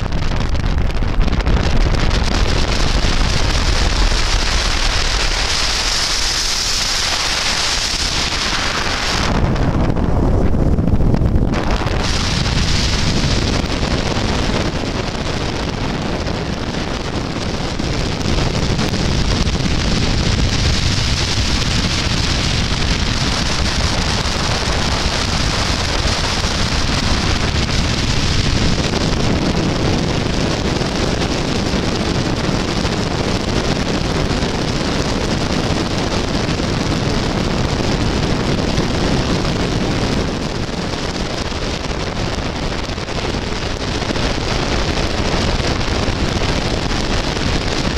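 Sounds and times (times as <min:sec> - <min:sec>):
hydrofoil engine and water rushing: 0:00.0 - 0:47.9
wind buffeting microphone: 0:00.0 - 0:47.9.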